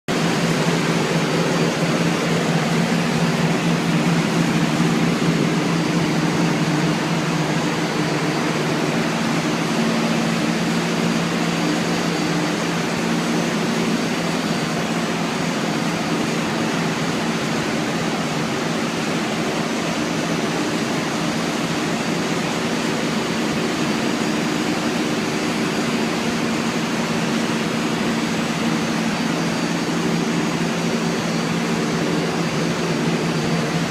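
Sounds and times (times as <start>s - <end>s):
motor hum: 0.1s - 33.9s.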